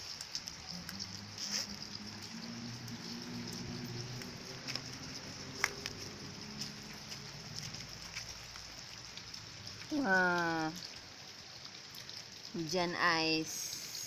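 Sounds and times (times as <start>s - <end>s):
hailstones ticking: 0.0s - 14.0s
rain and hail pattering: 0.0s - 14.0s.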